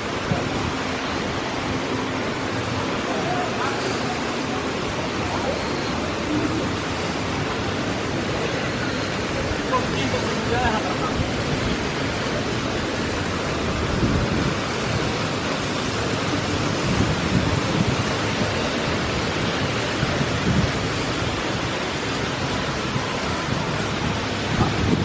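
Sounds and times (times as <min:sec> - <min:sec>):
heavy rain pouring: 0:00.0 - 0:25.0
wind buffeting microphone: 0:00.0 - 0:25.0.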